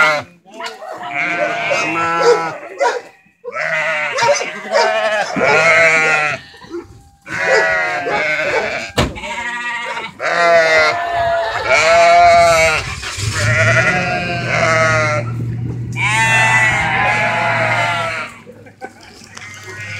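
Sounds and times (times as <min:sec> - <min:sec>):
sheep and goats bleating: 0:00.0 - 0:19.9.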